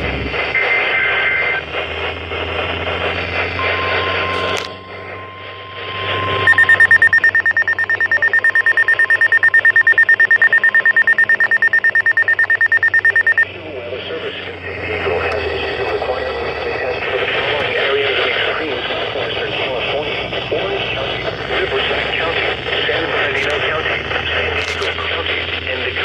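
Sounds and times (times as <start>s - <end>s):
radio static: 0.0s - 26.0s
rapid high alarm beeping: 0.0s - 26.0s
steady tone: 0.0s - 26.0s
warbling data tones: 0.0s - 26.0s.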